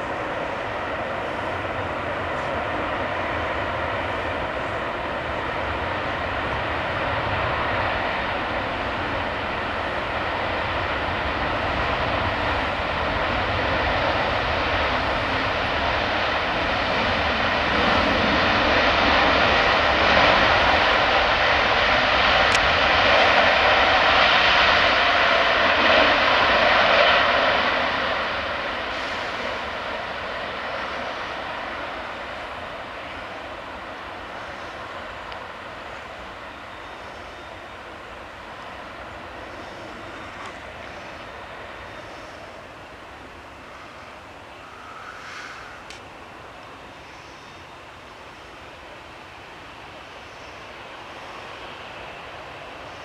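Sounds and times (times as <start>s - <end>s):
jet airliner landing roar: 0.0s - 53.0s.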